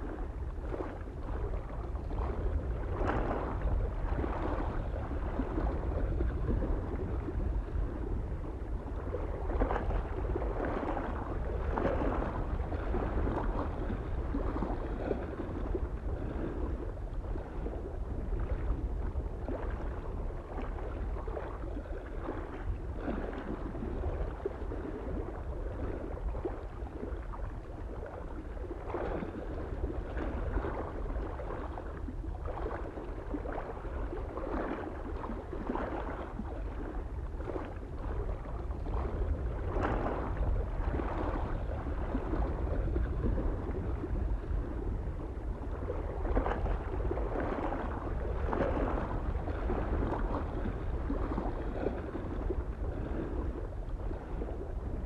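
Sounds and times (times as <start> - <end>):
small waves lapping on shore: 0.0 - 55.0
wind rumble on microphone: 0.0 - 55.0.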